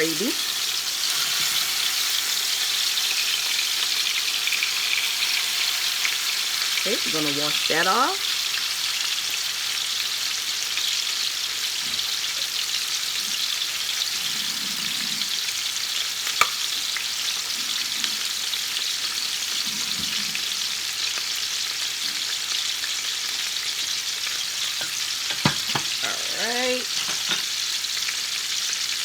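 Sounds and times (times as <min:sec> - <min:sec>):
chicken sizzling in grease: 0:00.0 - 0:29.0.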